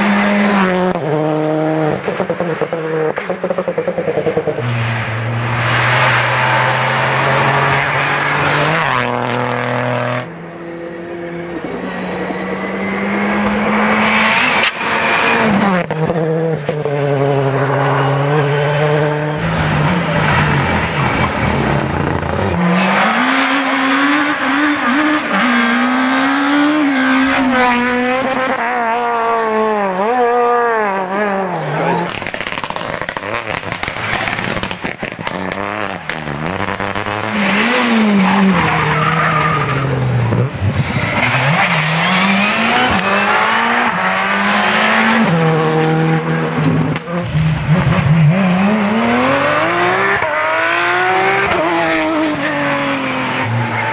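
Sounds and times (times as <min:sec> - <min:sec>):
rally car engines revving past: 0:00.0 - 0:53.9.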